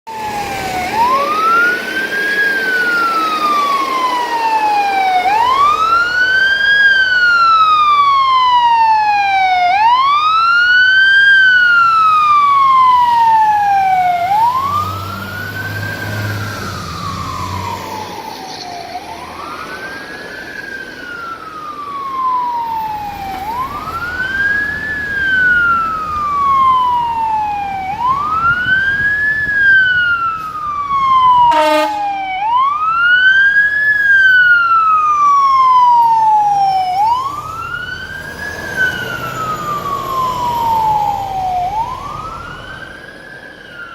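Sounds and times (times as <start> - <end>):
fire truck siren wailing: 0.0 - 43.9.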